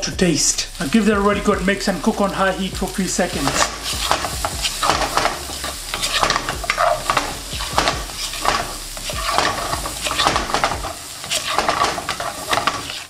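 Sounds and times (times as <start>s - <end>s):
food sizzling in wok: 0.0s - 13.0s
spatula scraping wok: 0.0s - 13.0s.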